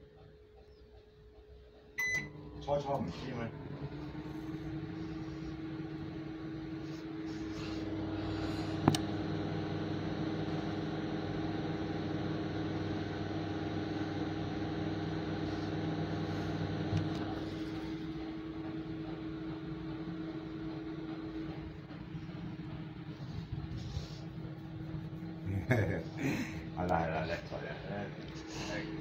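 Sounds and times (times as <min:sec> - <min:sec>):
microwave oven humming: 0:00.0 - 0:29.0.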